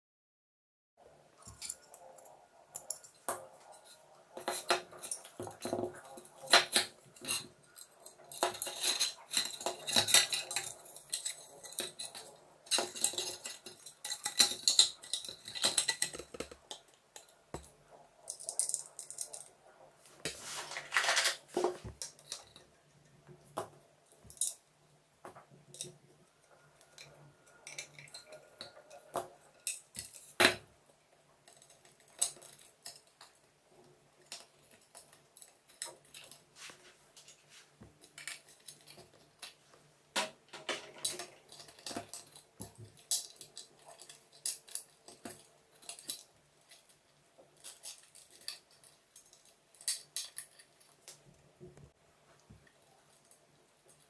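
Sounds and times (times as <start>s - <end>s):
plastic parts clicking and scraping: 1.4s - 19.6s, 20.2s - 24.6s, 25.3s - 54.0s.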